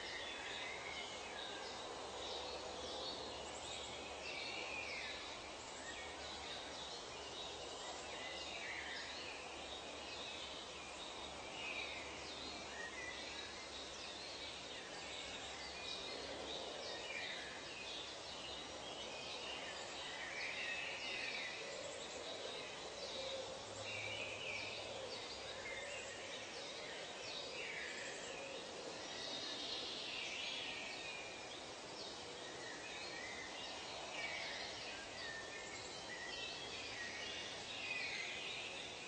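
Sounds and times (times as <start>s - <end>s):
steady background hiss: 0.0s - 39.0s.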